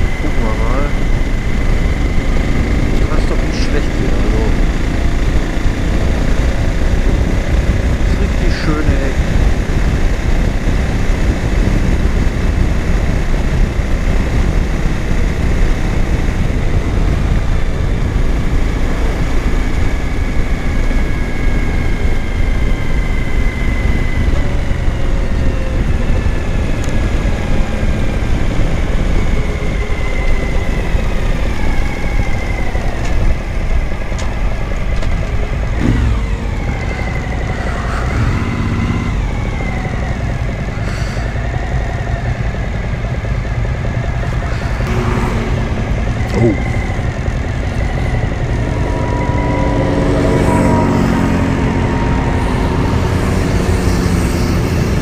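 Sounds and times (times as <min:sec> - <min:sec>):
motorcycle engine: 0:00.0 - 0:55.0
wind and road noise: 0:00.0 - 0:55.0.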